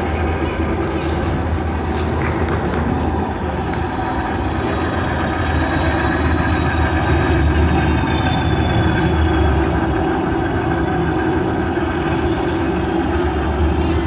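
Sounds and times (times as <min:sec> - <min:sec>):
faint high whine: 0:00.0 - 0:14.0
low mechanical rumble and hum: 0:00.0 - 0:14.0.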